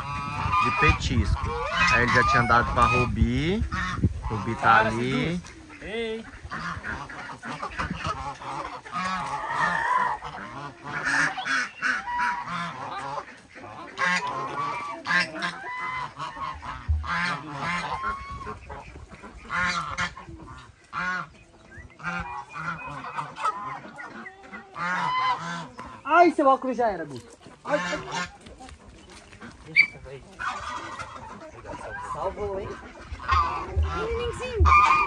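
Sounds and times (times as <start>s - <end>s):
geese honking: 0.0s - 35.0s.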